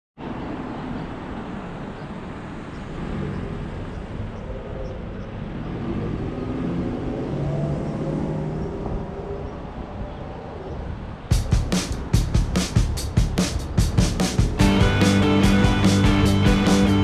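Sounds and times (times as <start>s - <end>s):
tyre and road noise: 0.2s - 17.0s.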